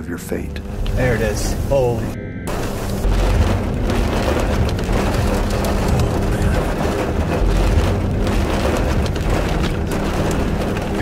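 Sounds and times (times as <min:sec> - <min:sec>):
low rumble: 0:00.5 - 0:11.0
gusting wind: 0:00.6 - 0:11.0
heavy rain: 0:00.6 - 0:11.0
raindrops ticking: 0:00.6 - 0:11.0.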